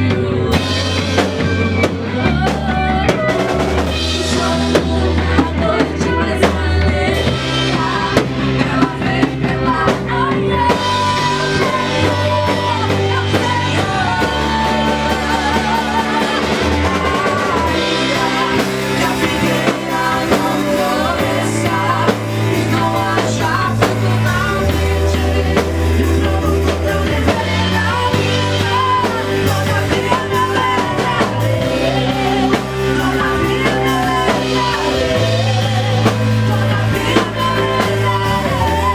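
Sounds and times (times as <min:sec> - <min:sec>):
drum kit: 0:00.0 - 0:38.9
low bass notes: 0:00.0 - 0:38.9
person singing: 0:00.0 - 0:38.9.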